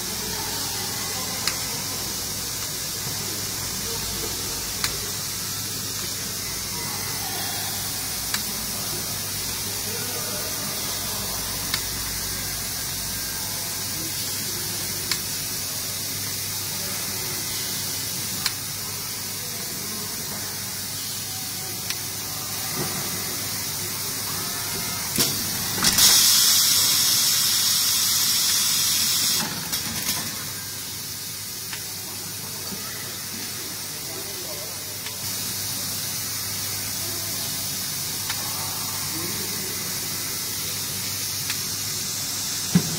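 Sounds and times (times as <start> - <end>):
loud high hiss: 0.0 - 42.9
welding arc hissing: 0.0 - 42.9.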